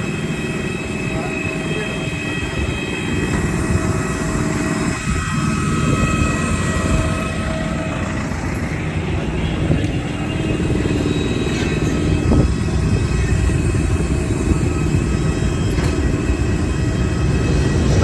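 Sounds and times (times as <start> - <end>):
faint steady whine: 0.0 - 18.0
vehicle engine rumble: 0.0 - 18.0.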